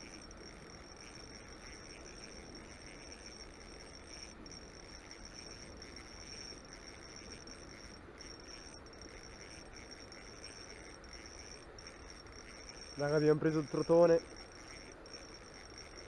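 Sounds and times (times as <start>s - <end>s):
insect trilling: 0.0s - 16.0s
low outdoor background noise: 0.0s - 16.0s.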